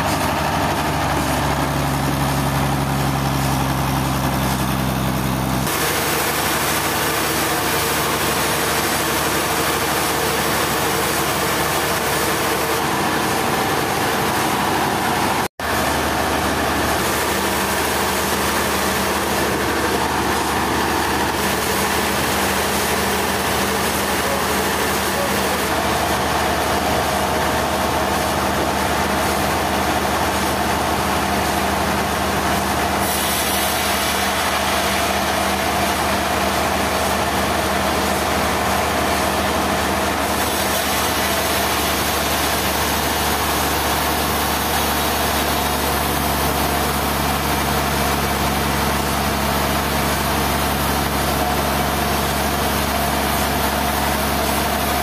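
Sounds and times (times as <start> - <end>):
loud machinery hiss: 0.0 - 55.0.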